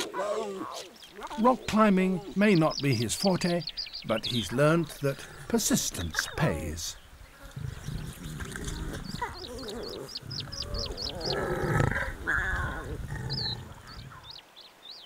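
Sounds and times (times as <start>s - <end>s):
lion cubs grunting and mewing: 0.0s - 14.4s
small bird chirping: 0.9s - 15.0s.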